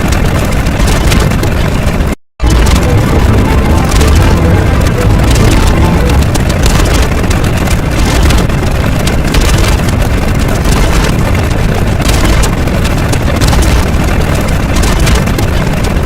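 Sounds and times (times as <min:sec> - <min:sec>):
bass-heavy rumbling noise: 0:00.0 - 0:16.0
fast crackles: 0:00.0 - 0:16.0.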